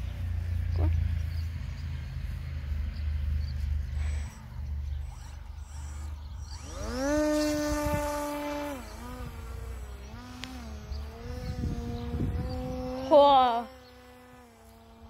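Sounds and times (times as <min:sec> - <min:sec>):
model aeroplane motor buzzing: 0:02.2 - 0:15.0.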